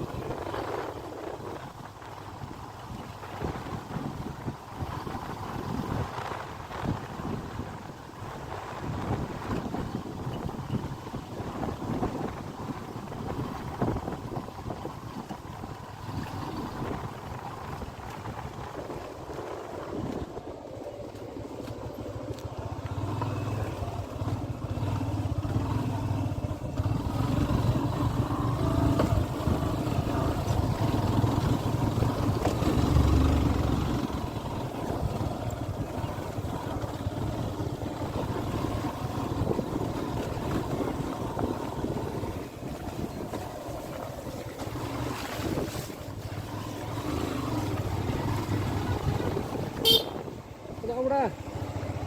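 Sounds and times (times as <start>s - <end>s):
wind noise on microphone: 0.0s - 22.4s, 23.5s - 51.0s
engine rumbling: 0.0s - 52.0s.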